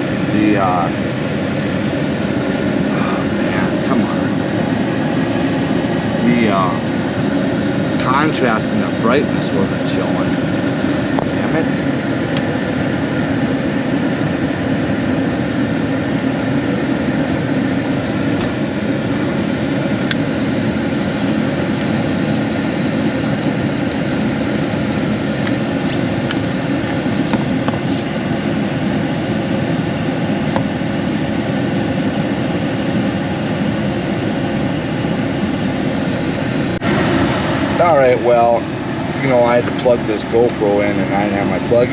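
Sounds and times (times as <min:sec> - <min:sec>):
machine running with rushing hum: 0:00.0 - 0:41.9.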